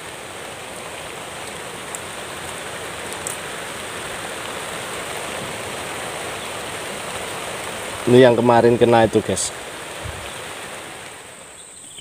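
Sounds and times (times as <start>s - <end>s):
drizzle falling on leaves: 0.0s - 12.0s.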